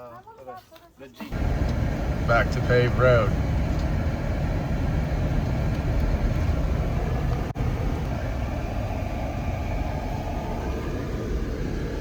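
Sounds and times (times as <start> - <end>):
car engine and tyre noise: 1.3 - 12.0.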